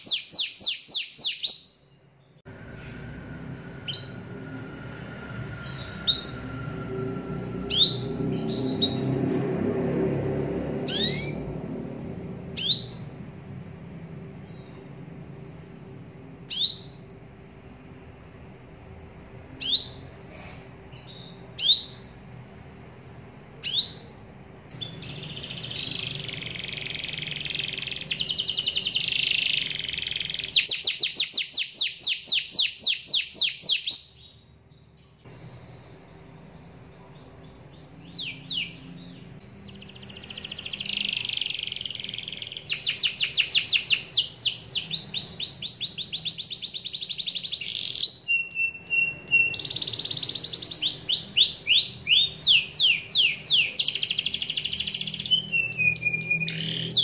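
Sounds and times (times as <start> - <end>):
canary singing: 0.0 - 2.4, 3.4 - 9.4, 10.8 - 15.3, 16.3 - 18.2, 18.9 - 20.2, 20.8 - 57.0.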